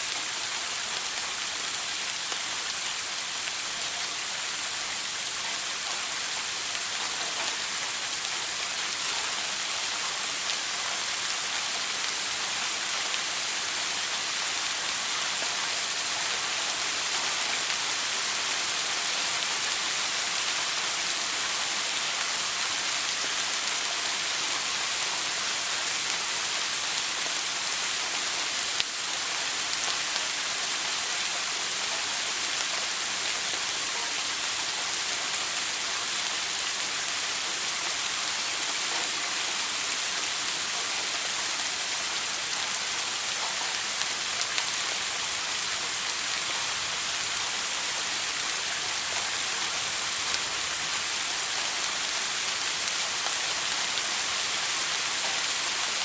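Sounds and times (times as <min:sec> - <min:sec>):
shower water spray hissing: 0:00.0 - 0:56.0.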